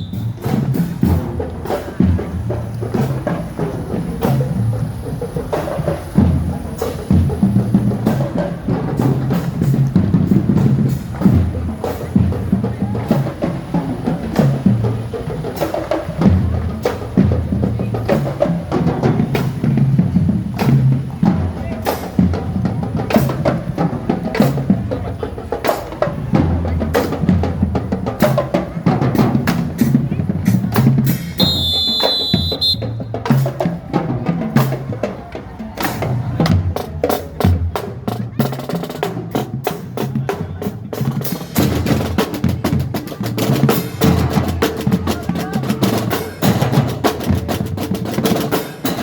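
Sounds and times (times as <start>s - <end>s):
marching band playing: 0.0s - 49.0s.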